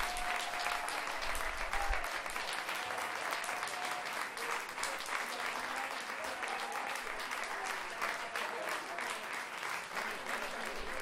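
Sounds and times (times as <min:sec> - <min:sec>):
crowd applause: 0:00.0 - 0:11.0
people cheering: 0:00.0 - 0:11.0.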